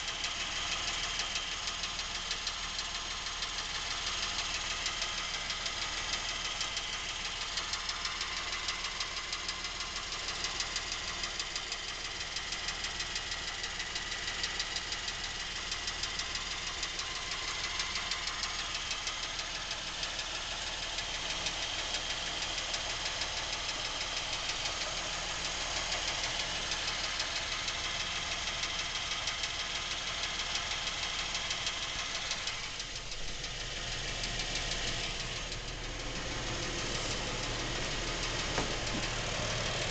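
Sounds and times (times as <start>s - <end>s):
car engine running with ticking knock: 0.0s - 39.9s.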